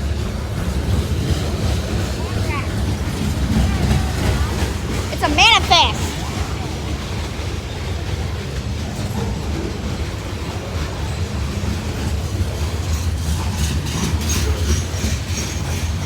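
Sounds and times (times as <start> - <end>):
freight train rumbling: 0.0 - 16.0
wheels clicking over rail joints: 0.0 - 16.0.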